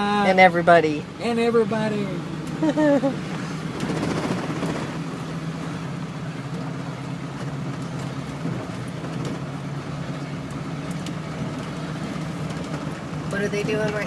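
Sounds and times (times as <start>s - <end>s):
car driving on highway: 0.0s - 14.0s.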